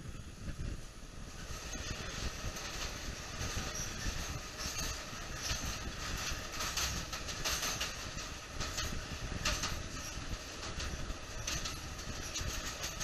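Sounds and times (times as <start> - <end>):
train wheels rumbling and rattling: 0.2 - 13.0
wheel screeches: 1.3 - 13.0.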